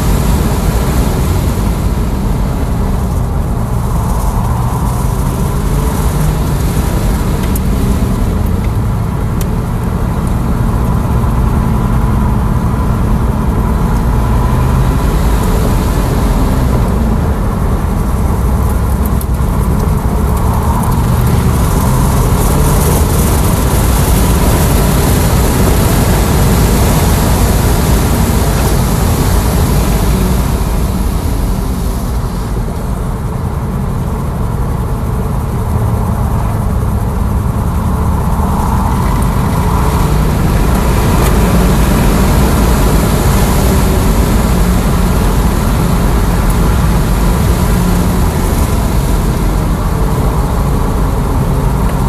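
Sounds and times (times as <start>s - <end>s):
car interior road and wind noise: 0.0s - 52.0s.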